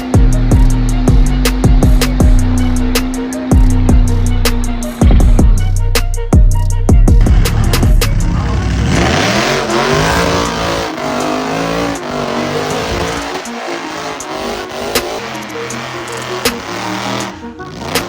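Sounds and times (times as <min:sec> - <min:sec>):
truck engine revving: 0:00.0 - 0:06.4, 0:07.2 - 0:18.0.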